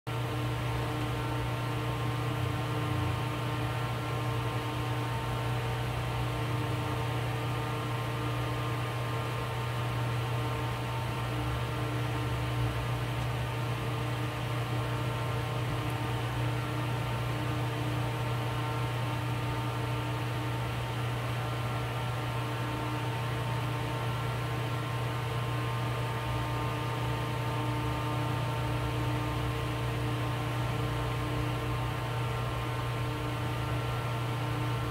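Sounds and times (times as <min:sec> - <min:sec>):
electrical hum: 0:00.1 - 0:34.9.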